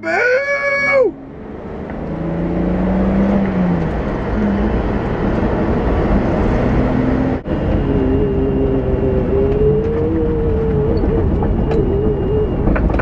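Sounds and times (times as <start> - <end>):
road and wind noise: 0.0 - 13.0
car engine running: 0.8 - 13.0.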